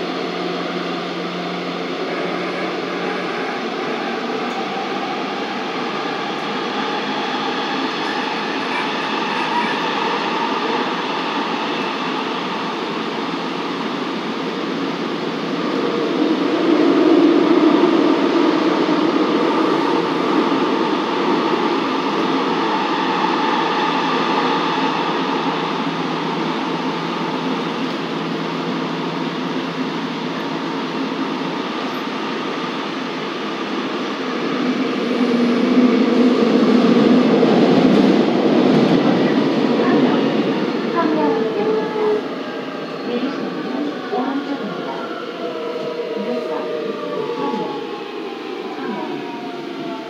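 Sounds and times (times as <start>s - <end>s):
subway train running noise: 0.0s - 50.0s.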